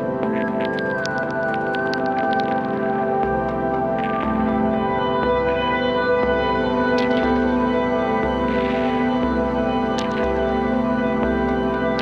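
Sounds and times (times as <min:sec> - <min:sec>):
ambient music with sustained tones: 0:00.0 - 0:12.0
low bass: 0:00.0 - 0:12.0.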